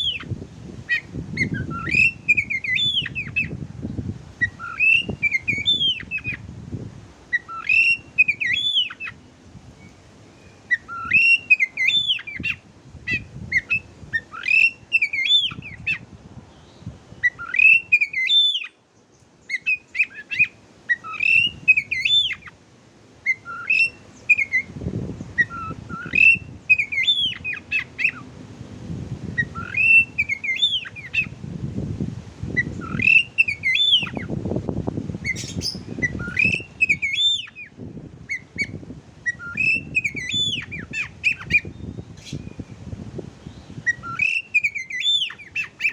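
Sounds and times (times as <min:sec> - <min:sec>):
magpie-robin whistled song: 0:00.0 - 0:00.3, 0:00.9 - 0:03.6, 0:04.4 - 0:06.4, 0:07.3 - 0:16.0, 0:16.6 - 0:18.8, 0:19.5 - 0:22.6, 0:23.2 - 0:24.8, 0:25.4 - 0:28.3, 0:29.4 - 0:31.4, 0:32.6 - 0:34.4, 0:35.2 - 0:42.7, 0:43.5 - 0:45.9.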